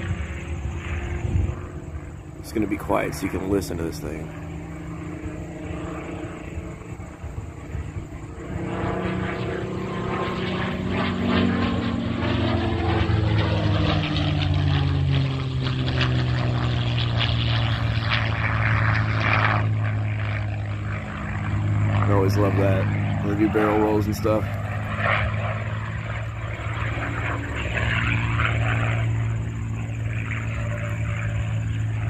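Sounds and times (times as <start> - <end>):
propeller plane flying by: 0.0 - 32.0.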